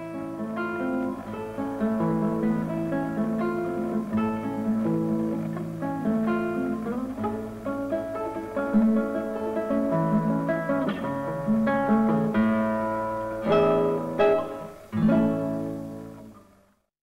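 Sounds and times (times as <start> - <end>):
acoustic guitar music: 0.0 - 16.9.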